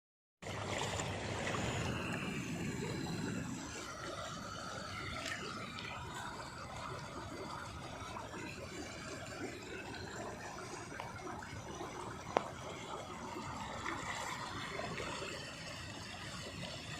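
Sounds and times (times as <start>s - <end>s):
water running and trickling: 0.4s - 16.9s.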